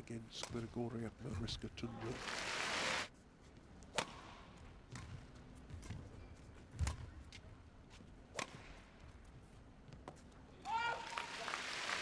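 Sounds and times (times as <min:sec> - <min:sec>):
quiet arena hush: 0:00.0 - 0:12.0.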